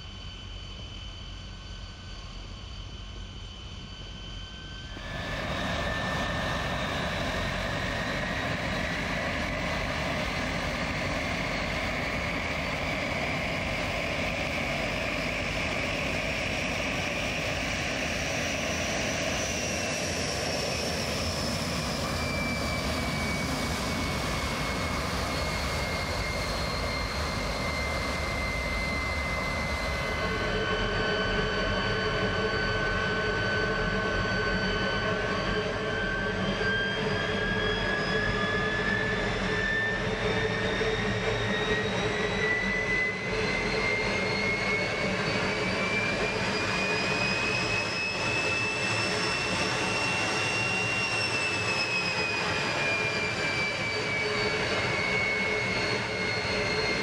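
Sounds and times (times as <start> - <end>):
jet engine roar: 0.0 - 57.0
jet engine whine: 0.0 - 57.0.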